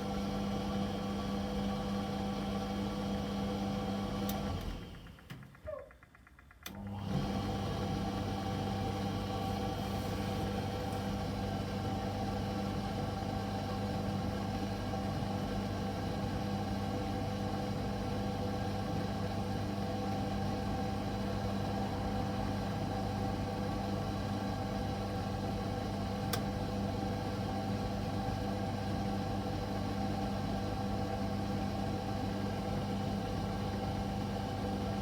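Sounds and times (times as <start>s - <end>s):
tumble dryer running: 0.0s - 5.7s, 6.6s - 35.0s.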